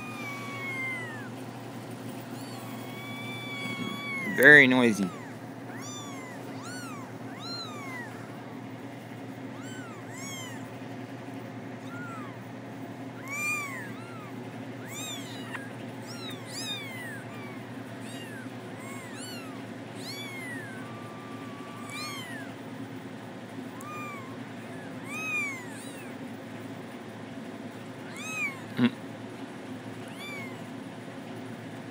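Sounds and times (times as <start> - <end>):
kittens mewing: 0.0 - 31.3
steady low hum: 0.0 - 31.9.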